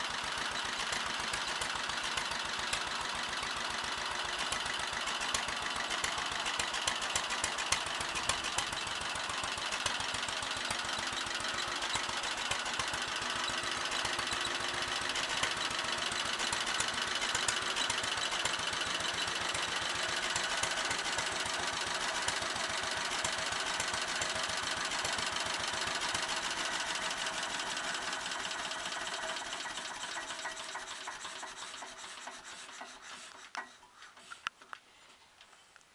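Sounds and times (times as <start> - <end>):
engine running and shutting down: 0.0 - 32.7.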